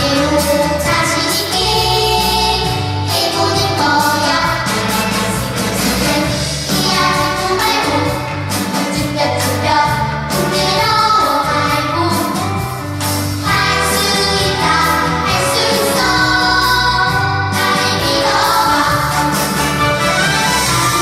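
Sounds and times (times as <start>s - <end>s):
musical accompaniment with beat: 0.0s - 21.0s
vocal ensemble singing: 0.0s - 21.0s.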